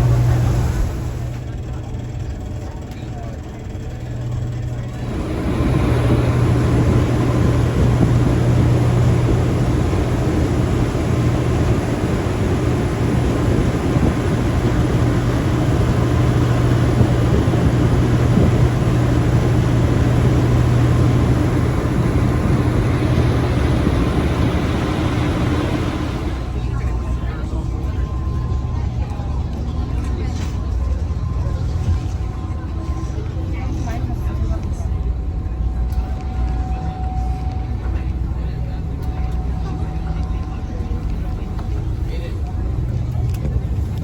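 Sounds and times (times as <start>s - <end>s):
ferry engine drone: 0.0s - 44.0s.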